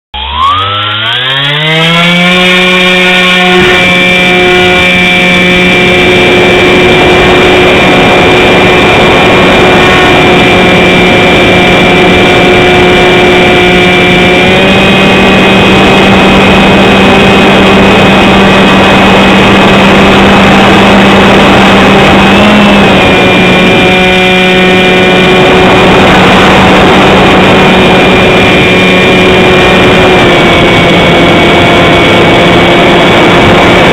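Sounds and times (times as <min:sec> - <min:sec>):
model plane motor whine: 0:00.2 - 0:33.9
wind noise: 0:01.8 - 0:33.9.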